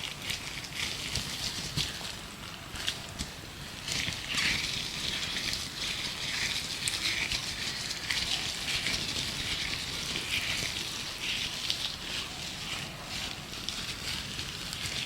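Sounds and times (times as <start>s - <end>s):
gloved hands crinkling: 0.0s - 15.0s.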